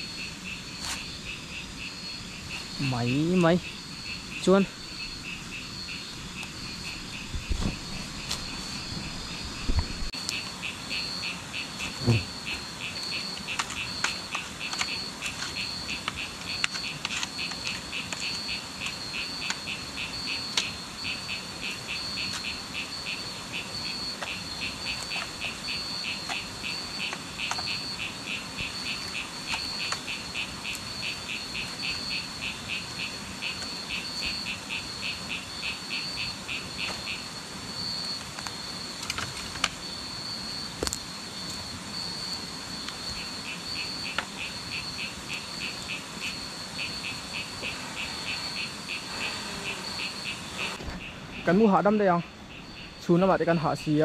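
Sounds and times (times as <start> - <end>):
frogs pulsed calls: 0.0 - 54.0
high trilling insect call: 0.0 - 54.0.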